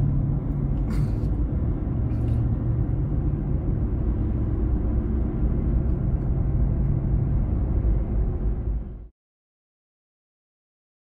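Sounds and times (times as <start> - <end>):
car engine and tyres rumbling: 0.0 - 9.1.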